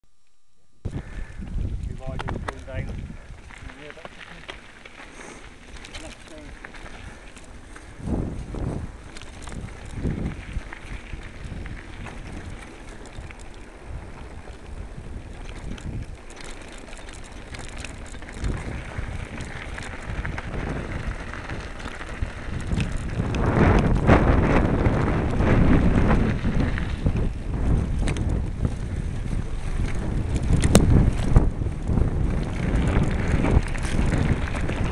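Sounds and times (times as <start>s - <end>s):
wind buffeting microphone: 0.8s - 34.9s
rumble over gravel track: 0.9s - 34.9s.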